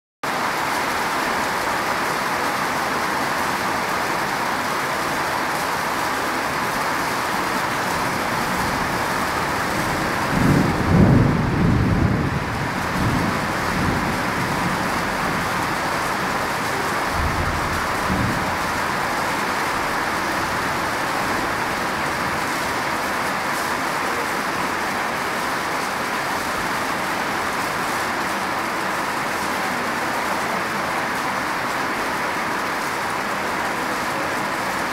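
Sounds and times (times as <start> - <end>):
heavy rainfall: 0.2 - 34.9.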